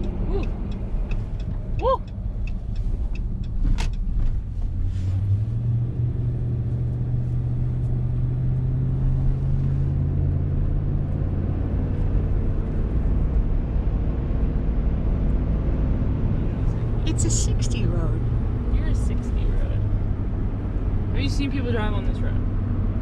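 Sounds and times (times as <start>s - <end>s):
road noise: 0.0s - 23.0s
truck engine: 0.0s - 23.0s.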